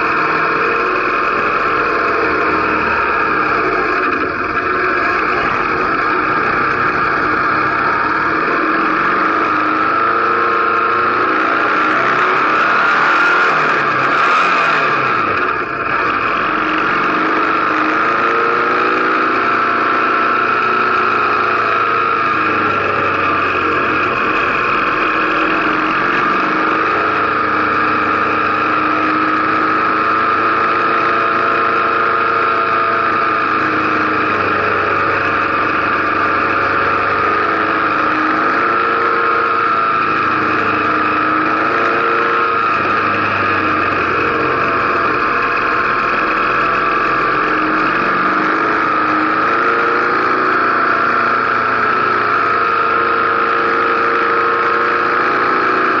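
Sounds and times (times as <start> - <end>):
motorcycle engine running: 0.0 - 56.0
steady high whine: 0.0 - 56.0.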